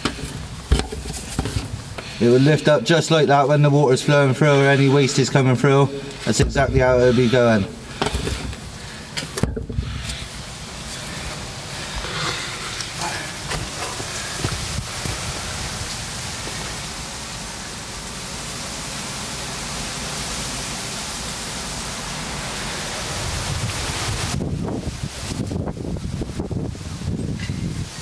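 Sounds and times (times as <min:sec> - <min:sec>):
water running through drain pipe: 0:00.0 - 0:28.0.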